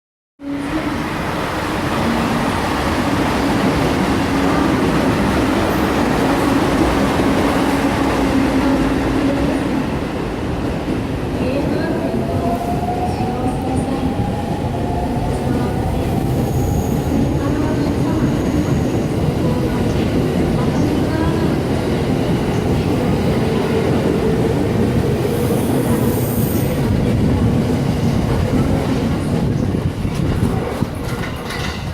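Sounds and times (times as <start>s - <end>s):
train wheels rumbling and clattering: 0.9s - 31.9s.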